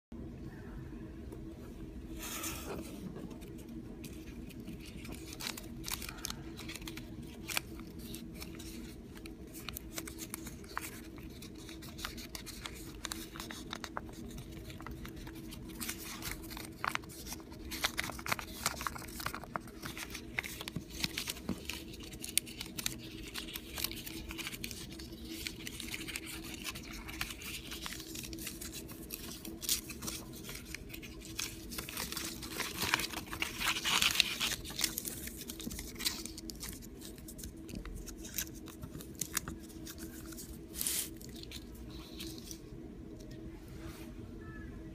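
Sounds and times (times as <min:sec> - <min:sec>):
paper rustling and crinkling: 0:02.2 - 0:42.7
paper fold clicks: 0:04.6 - 0:42.5.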